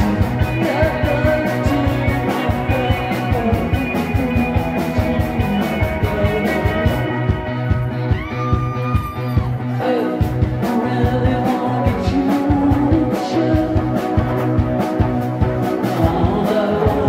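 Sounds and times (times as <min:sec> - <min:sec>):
bass guitar: 0:00.0 - 0:17.0
drums: 0:00.0 - 0:17.0
electric guitars: 0:00.0 - 0:17.0.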